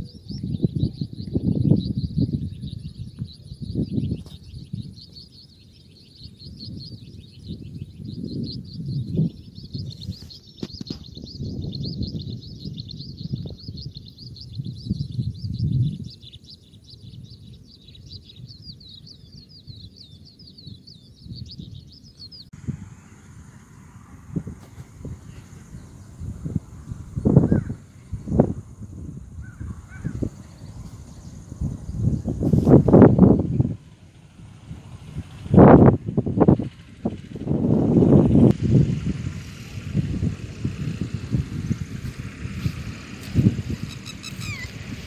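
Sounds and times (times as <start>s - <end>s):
high-pitched chirping: 0.0s - 34.0s, 42.0s - 45.0s
wind gusts on microphone: 0.0s - 45.0s.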